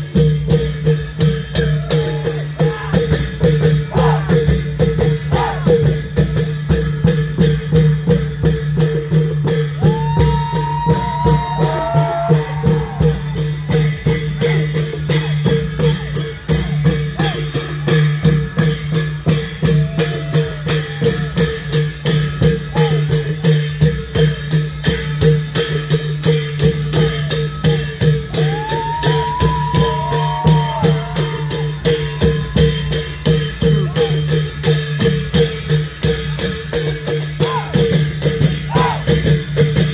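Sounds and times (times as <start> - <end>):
drums and cymbals beat: 0.0 - 39.9.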